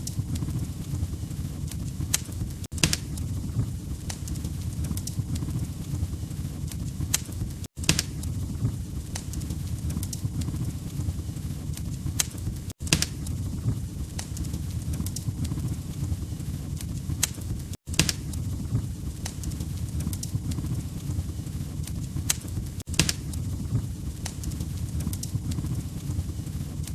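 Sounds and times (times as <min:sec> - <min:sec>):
burning logs popping and snapping: 0:00.0 - 0:26.9
low rumble of flames: 0:00.0 - 0:26.9.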